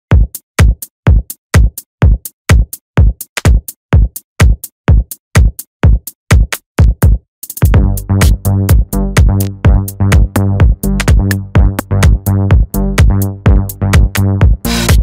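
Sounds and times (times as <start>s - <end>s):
deep kick drum: 0.1s - 15.0s.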